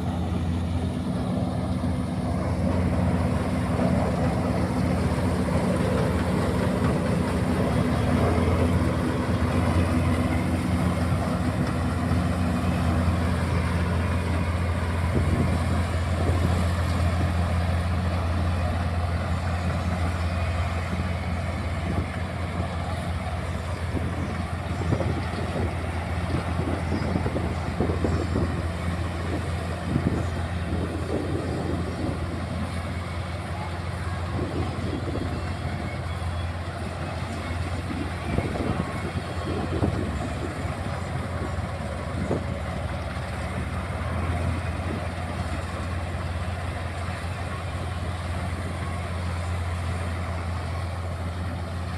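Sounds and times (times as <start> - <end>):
combine harvester engine running: 0.0 - 51.9.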